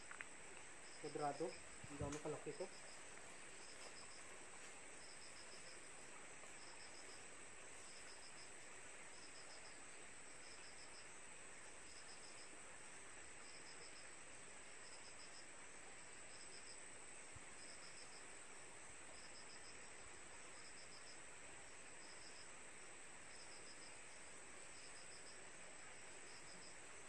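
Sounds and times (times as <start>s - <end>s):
faint cricket chirping: 0.0s - 27.0s.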